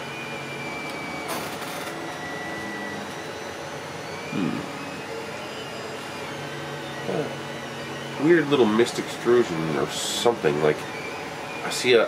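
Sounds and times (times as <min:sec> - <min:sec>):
cooling fans whirring: 0:00.0 - 0:12.0
stepper motor tones: 0:00.0 - 0:12.0.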